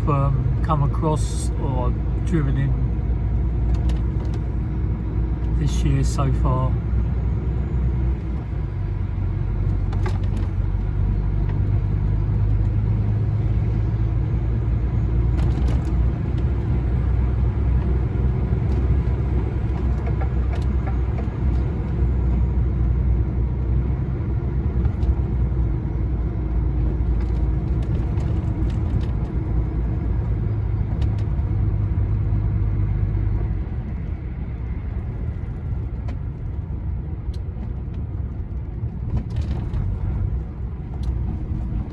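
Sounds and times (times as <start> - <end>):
truck engine and road rumble: 0.0 - 41.9.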